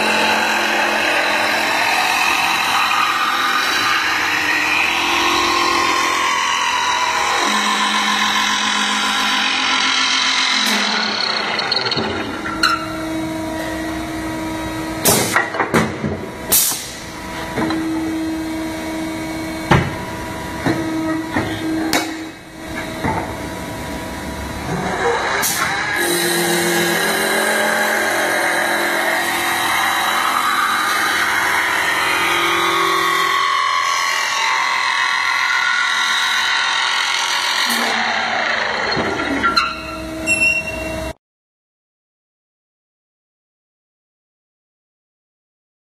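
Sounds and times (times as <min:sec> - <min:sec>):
wood lathe humming and cutting: 0:00.0 - 0:15.0, 0:17.0 - 0:40.2.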